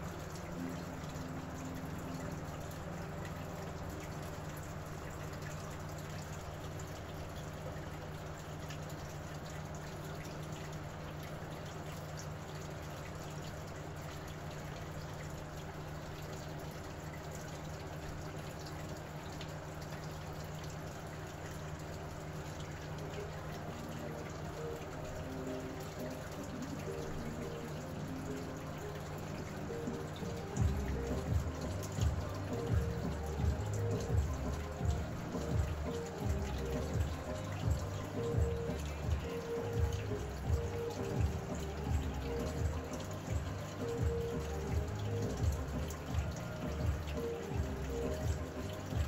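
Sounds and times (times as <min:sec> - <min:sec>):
low constant hum: 0:00.0 - 0:49.0.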